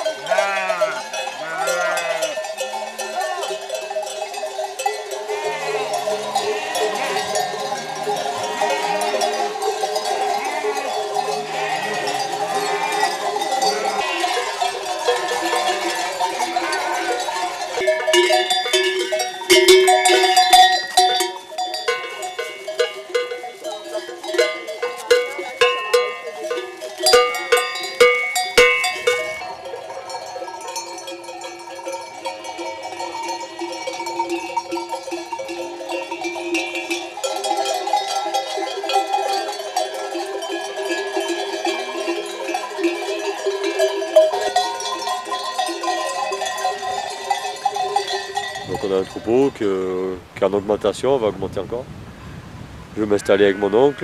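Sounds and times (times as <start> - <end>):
sheep bells clanking: 0.0 - 51.3, 53.1 - 54.0.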